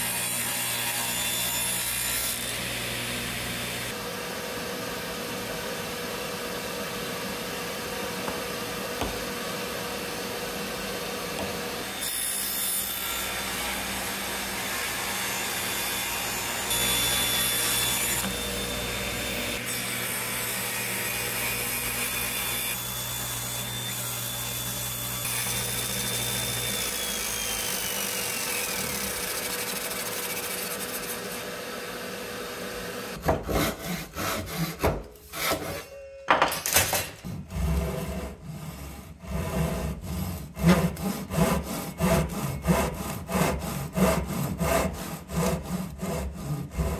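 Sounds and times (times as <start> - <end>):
power tool cutting wood: 0.0 - 35.7, 37.2 - 46.9.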